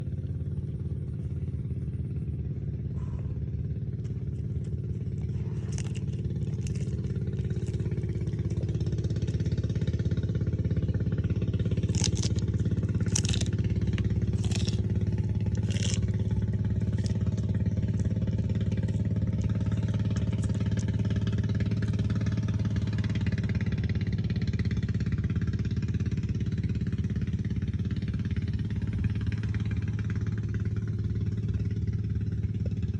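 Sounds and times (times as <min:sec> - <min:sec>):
low motor drone: 0:00.0 - 0:32.9
tortoise crunching leaves: 0:03.0 - 0:32.9.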